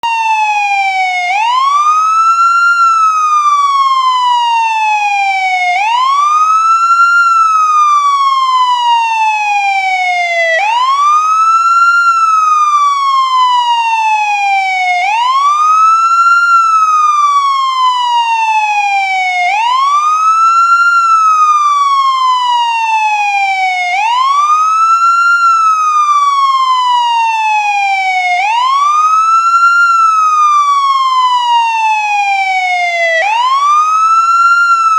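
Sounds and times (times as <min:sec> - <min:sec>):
ambulance wail siren: 0:00.0 - 0:34.9.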